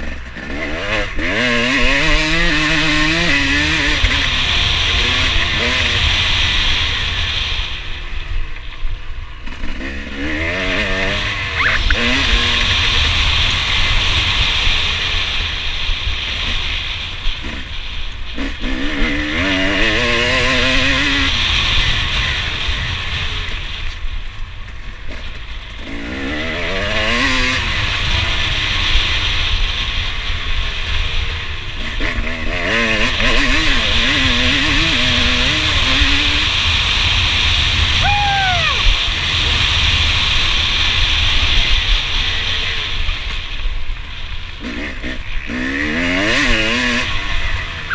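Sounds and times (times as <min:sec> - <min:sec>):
motocross engine revving: 0:00.0 - 0:07.9, 0:09.4 - 0:23.7, 0:25.1 - 0:43.6, 0:44.5 - 0:47.9.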